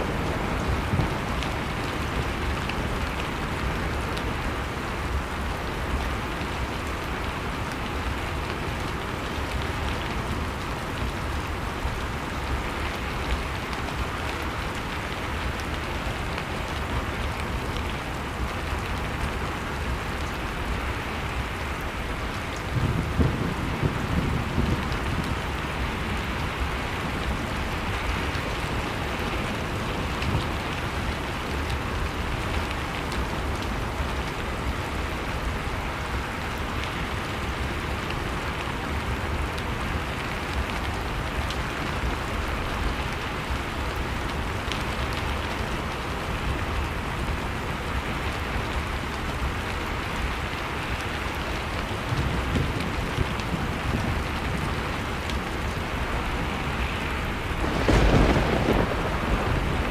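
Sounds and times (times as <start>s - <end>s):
crackling wood fire: 0.0s - 59.9s
rushing storm wind: 0.0s - 59.9s.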